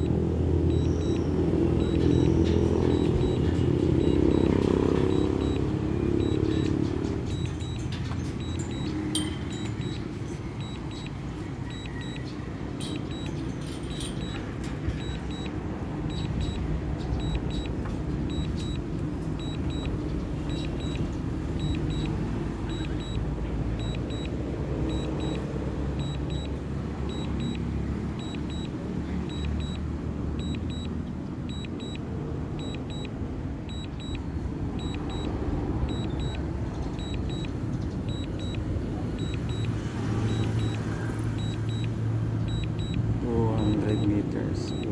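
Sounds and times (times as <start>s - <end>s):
short high double beeps: 0.0s - 17.7s, 18.3s - 18.8s, 19.4s - 25.4s, 26.0s - 44.9s.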